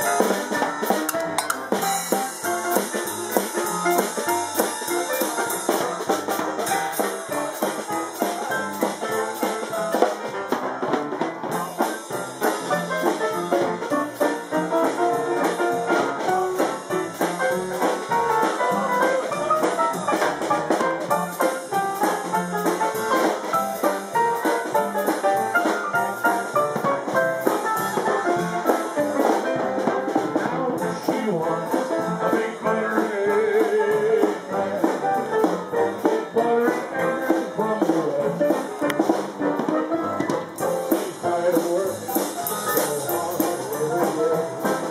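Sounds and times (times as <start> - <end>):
jazz band playing: 0.0 - 44.9.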